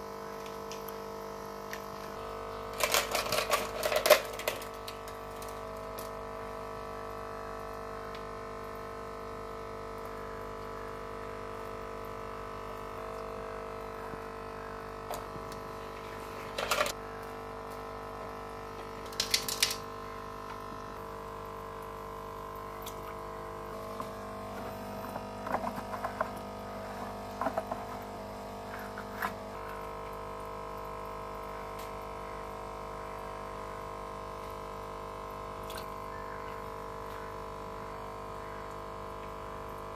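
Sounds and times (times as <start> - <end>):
aquarium filter pump humming: 0.0 - 39.9.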